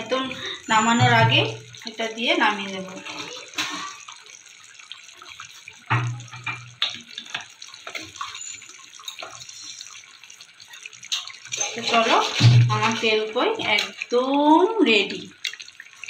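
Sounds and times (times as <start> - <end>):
gravy bubbling in pan: 0.0 - 16.0.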